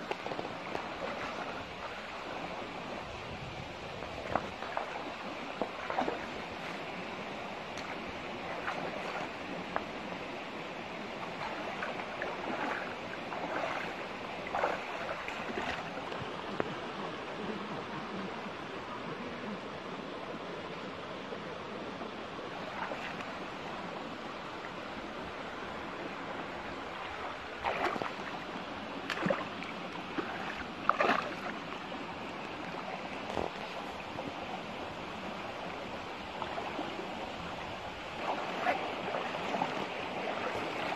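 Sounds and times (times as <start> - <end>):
water splashing from wading: 0.0 - 18.2, 22.5 - 40.9
stream running over rocks: 0.0 - 40.9.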